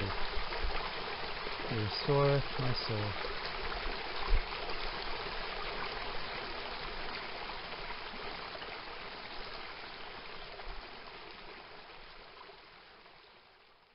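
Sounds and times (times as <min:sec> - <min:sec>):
stream water rushing: 0:00.0 - 0:13.8.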